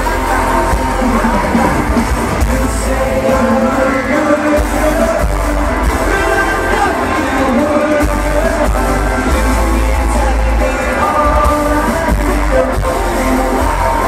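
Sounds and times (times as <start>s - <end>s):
crowd yelling: 0.0s - 14.0s
drums and bass: 0.0s - 14.0s
men singing: 0.0s - 14.0s.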